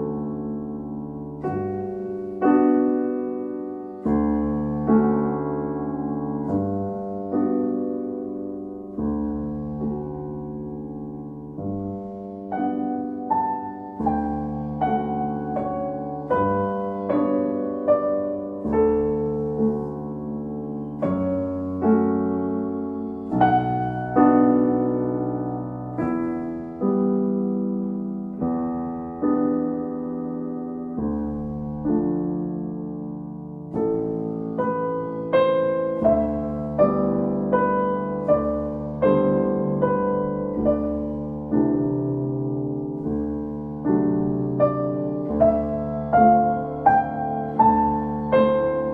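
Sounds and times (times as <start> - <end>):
calm solo piano music: 0.0 - 48.9.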